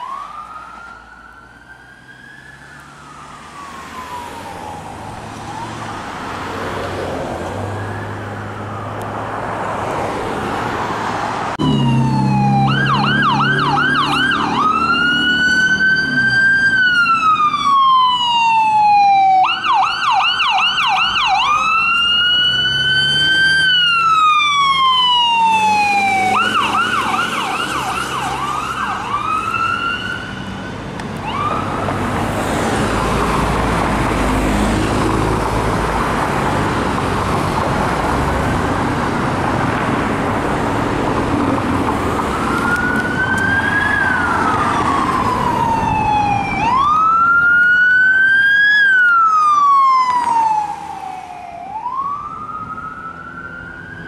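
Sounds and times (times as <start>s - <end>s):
emergency siren wailing: 0.0s - 54.0s.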